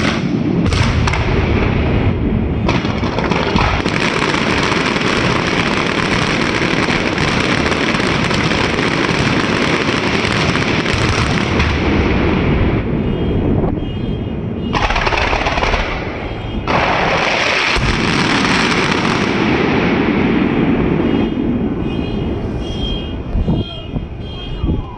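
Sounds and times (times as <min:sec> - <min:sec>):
fireworks and firecrackers banging: 0:00.0 - 0:24.9.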